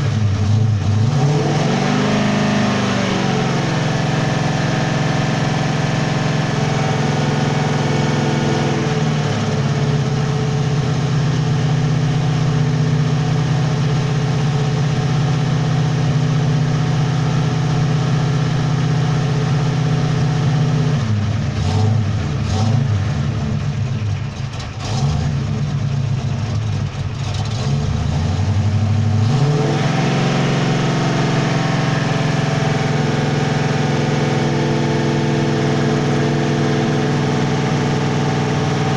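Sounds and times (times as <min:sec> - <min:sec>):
engine idling roughly: 0:00.0 - 0:29.4, 0:30.0 - 0:38.9.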